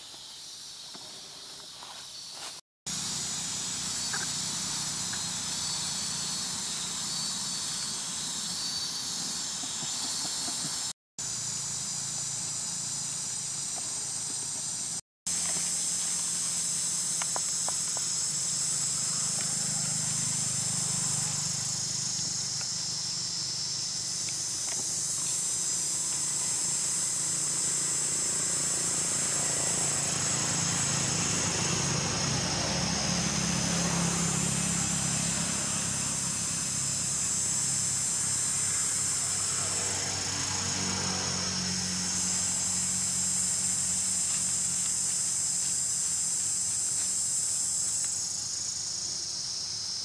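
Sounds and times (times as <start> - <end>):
high-pitched insect chorus: 0.0 - 50.0.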